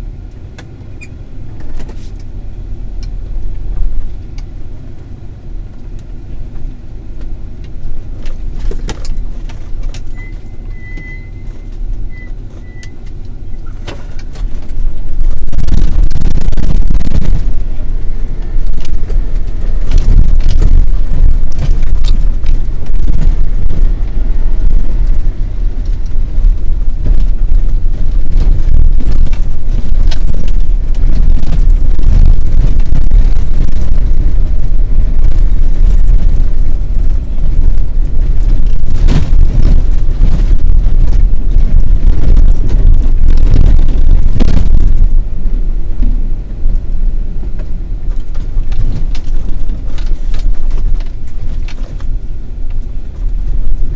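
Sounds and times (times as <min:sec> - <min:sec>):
off-road vehicle engine rumble: 0:00.0 - 0:53.9.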